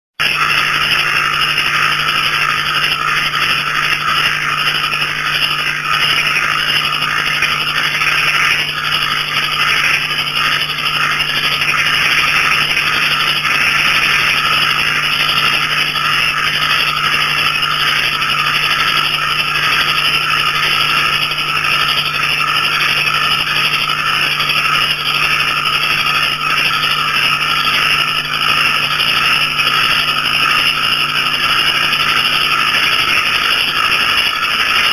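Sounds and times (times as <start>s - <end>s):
high cricket trills: 0.2s - 34.9s
pulsing frog chorus: 0.2s - 34.9s.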